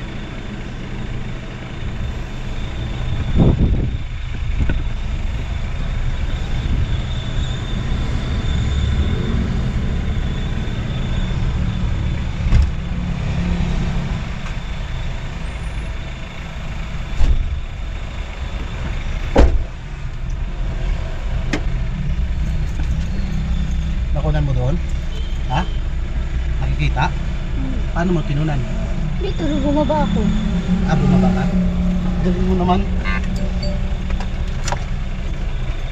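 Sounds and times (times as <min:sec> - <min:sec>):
road noise: 0:00.0 - 0:35.9
van engine rumble: 0:00.0 - 0:35.9.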